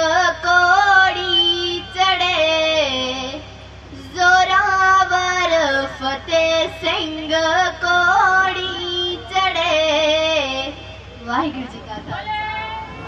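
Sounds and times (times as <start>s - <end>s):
girl singing into a microphone: 0.0s - 12.2s.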